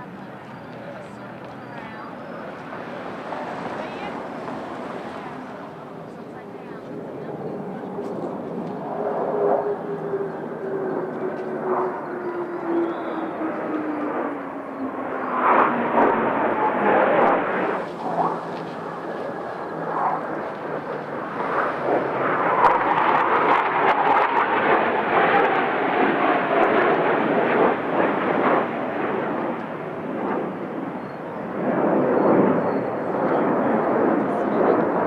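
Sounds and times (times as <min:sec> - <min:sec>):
jets roaring past: 0:00.0 - 0:35.0.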